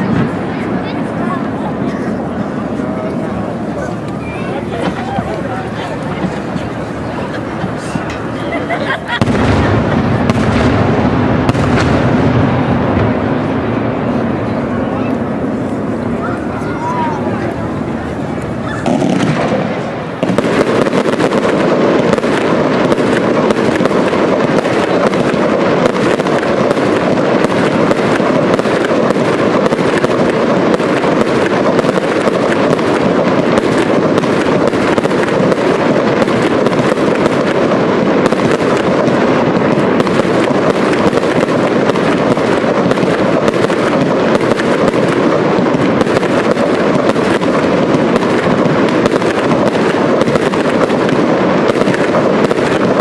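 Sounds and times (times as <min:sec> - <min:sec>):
fireworks bangs and crackle: 0:00.0 - 0:53.0.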